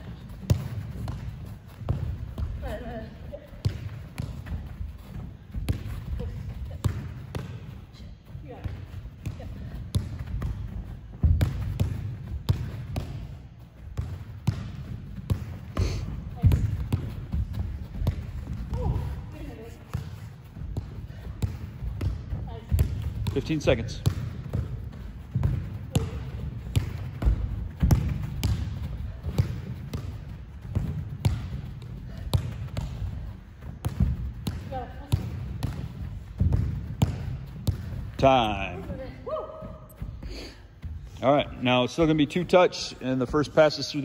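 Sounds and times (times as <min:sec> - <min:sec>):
soccer ball kicks: 0:00.0 - 0:41.2.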